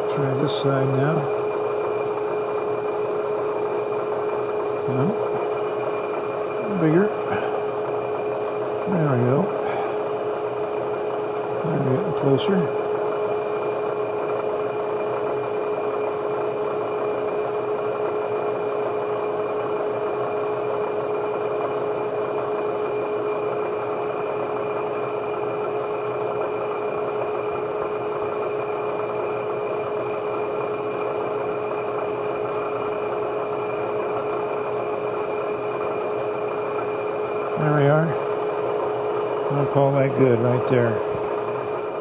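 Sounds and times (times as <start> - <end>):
spindle motor humming: 0.0 - 42.0.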